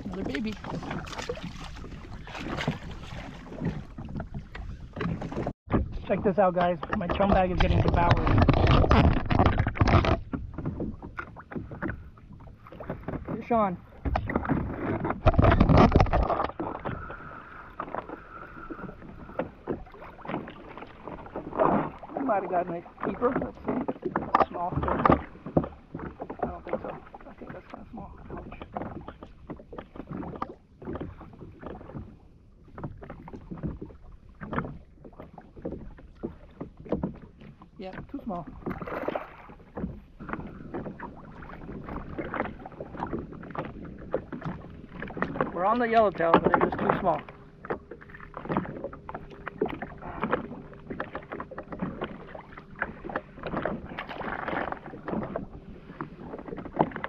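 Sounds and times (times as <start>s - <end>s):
waves slapping against hull: 0.0s - 57.0s.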